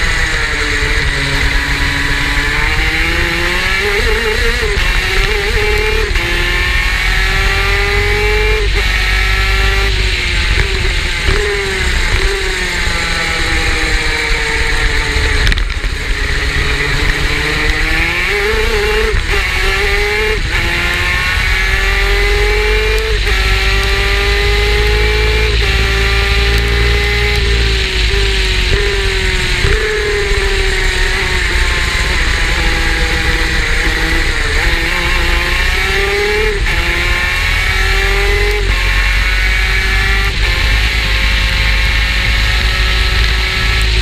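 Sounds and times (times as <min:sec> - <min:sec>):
kart engine accelerating: 0:00.0 - 0:44.0.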